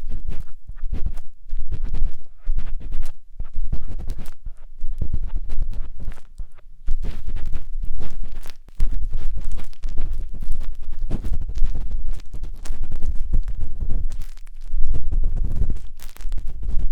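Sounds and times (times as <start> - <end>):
matchstick scratching on microphone: 0.0 - 16.9
deep contact rumble: 0.8 - 16.9.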